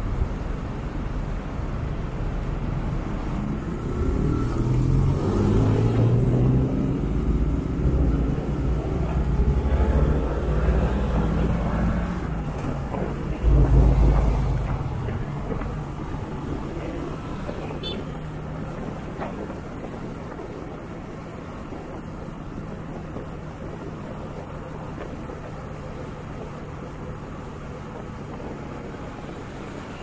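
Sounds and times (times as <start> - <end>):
road and traffic noise: 0.0 - 30.0.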